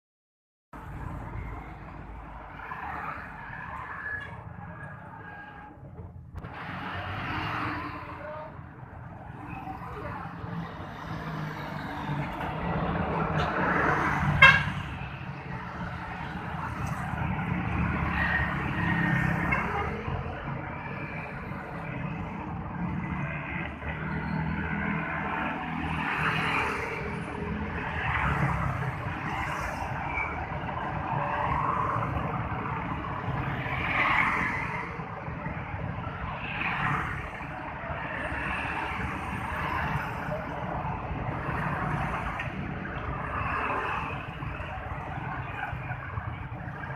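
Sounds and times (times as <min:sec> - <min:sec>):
motorcycles and cars passing: 0:00.8 - 0:46.9.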